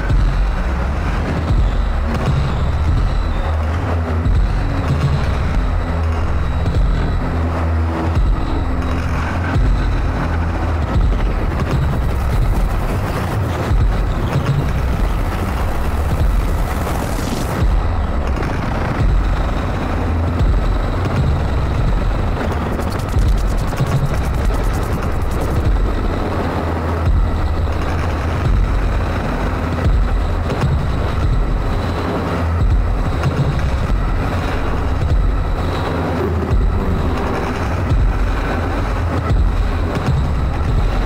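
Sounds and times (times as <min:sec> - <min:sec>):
electronic noise music: 0:00.0 - 0:41.0.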